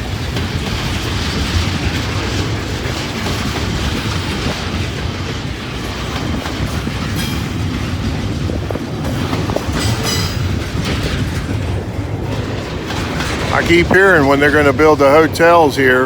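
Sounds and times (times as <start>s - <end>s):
train wheels rumbling on rail: 0.0s - 16.0s
wheels clicking over rail joints: 0.0s - 16.0s.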